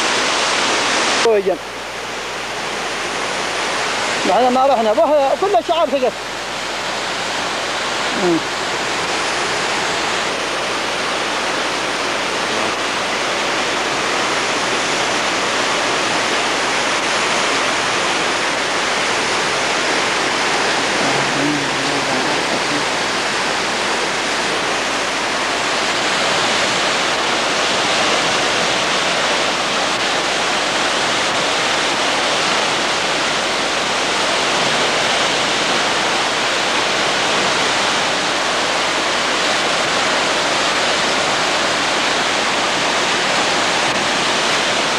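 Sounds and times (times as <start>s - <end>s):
flood water rushing: 0.0s - 44.9s.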